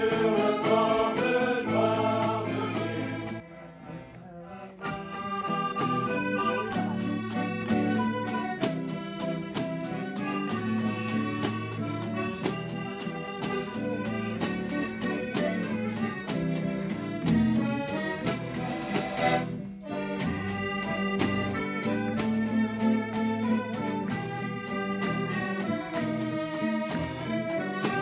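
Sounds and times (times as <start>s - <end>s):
strummed guitar: 0.0s - 4.2s, 4.8s - 28.0s
accordion playing lively tune: 0.0s - 28.0s.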